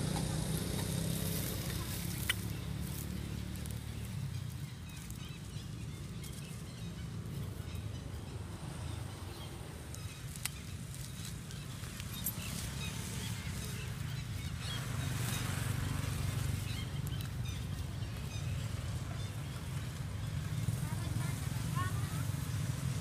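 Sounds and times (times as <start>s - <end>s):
faint engine hum: 0.0s - 23.0s.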